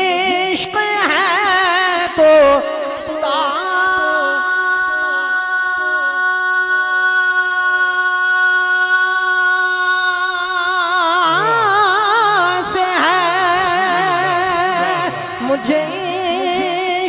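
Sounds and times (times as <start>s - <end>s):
man singing long held note: 1.5s - 17.0s.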